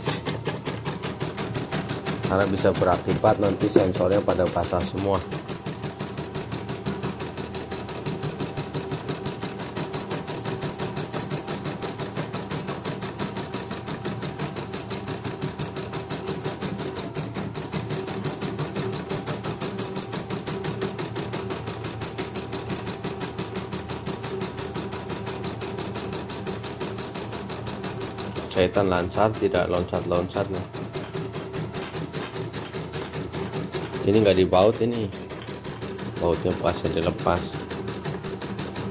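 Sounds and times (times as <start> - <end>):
embroidery machine stitching: 0.0 - 38.9.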